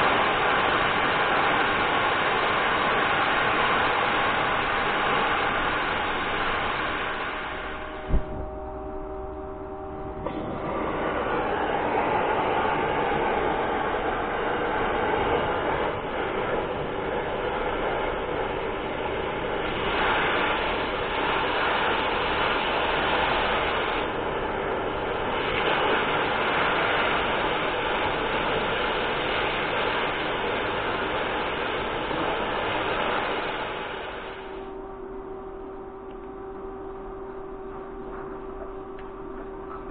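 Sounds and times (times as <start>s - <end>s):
cutting torch hissing: 0.0s - 8.6s, 10.0s - 34.8s.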